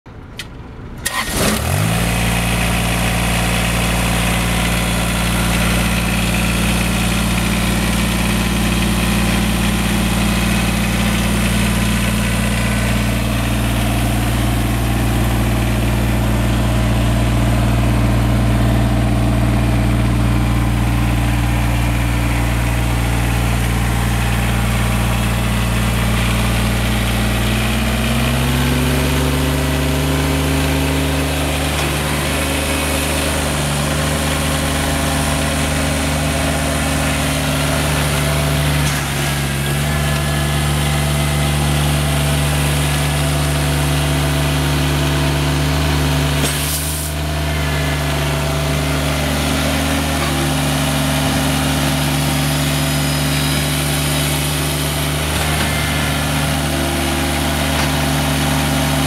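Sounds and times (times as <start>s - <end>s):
tractor diesel engine starting and idling: 0.1s - 59.0s.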